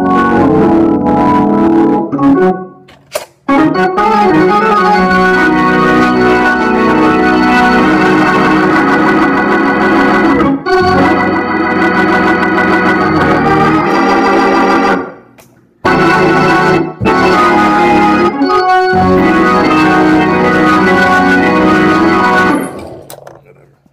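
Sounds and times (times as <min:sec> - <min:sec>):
organ playing held chords: 0:00.0 - 0:02.9, 0:03.5 - 0:23.1.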